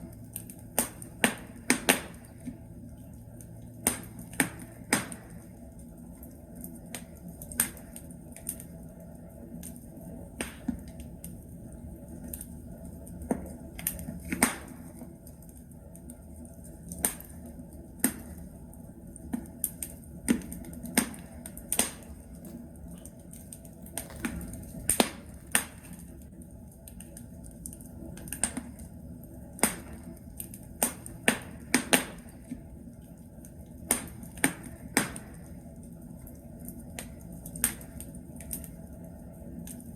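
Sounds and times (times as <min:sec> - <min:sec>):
low fire rumble: 0:00.0 - 0:39.9
fire crackling and popping: 0:00.2 - 0:39.0.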